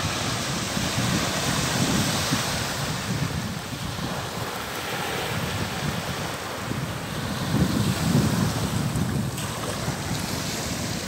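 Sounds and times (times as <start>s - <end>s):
small waves breaking on sand: 0.0s - 11.0s
wind blowing across microphone: 0.0s - 11.0s.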